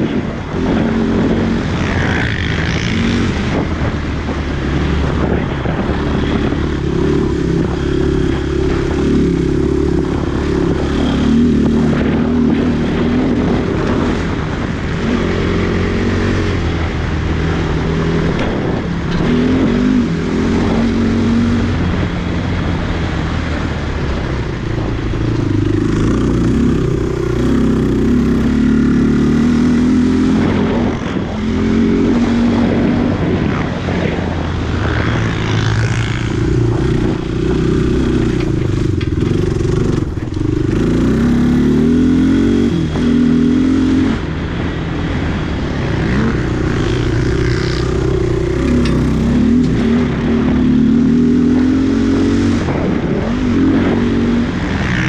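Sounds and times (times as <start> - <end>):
quad engine revving: 0.0 - 24.0, 24.8 - 44.4, 45.1 - 55.0.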